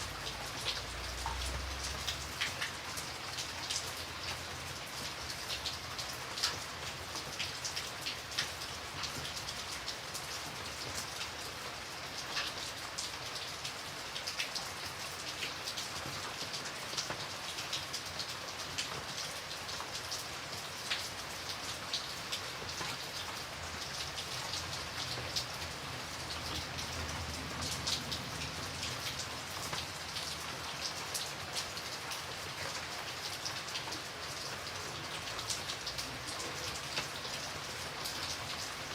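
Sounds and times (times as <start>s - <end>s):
rain hiss: 0.0s - 38.9s
raindrops ticking on hard surface: 0.0s - 38.9s.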